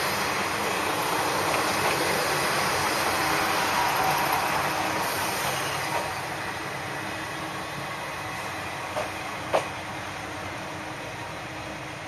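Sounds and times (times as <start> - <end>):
diesel railcar rolling: 0.0 - 12.0.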